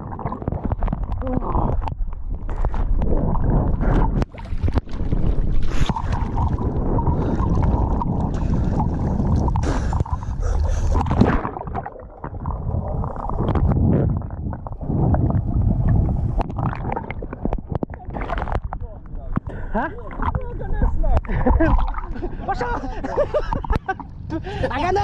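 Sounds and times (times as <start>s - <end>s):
seawater sloshing and gurgling: 0.0s - 25.0s.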